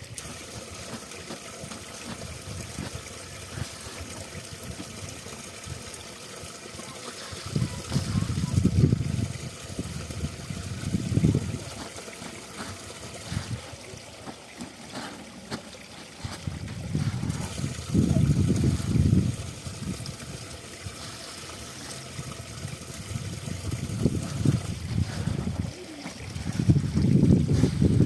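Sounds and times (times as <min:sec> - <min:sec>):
spring water trickling: 0:00.0 - 0:28.0.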